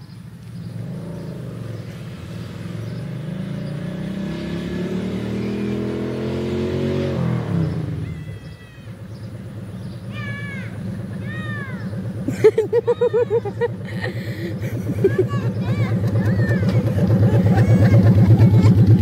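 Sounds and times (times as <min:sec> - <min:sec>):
vehicle engine accelerating: 0:00.0 - 0:19.0.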